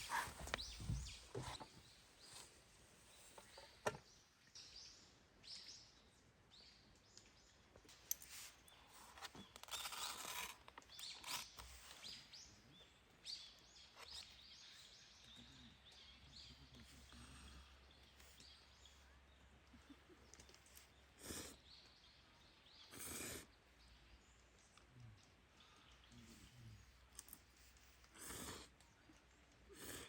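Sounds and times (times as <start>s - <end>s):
faint small bird chirps: 0.0s - 30.0s.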